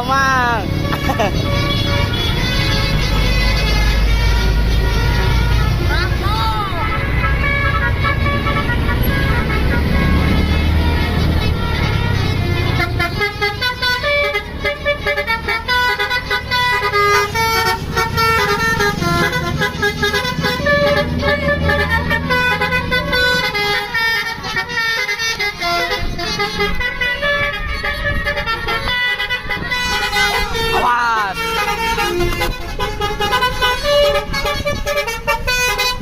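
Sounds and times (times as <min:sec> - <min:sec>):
bus engine running: 0:00.0 - 0:36.0
multi-tone air horn melody: 0:00.2 - 0:36.0.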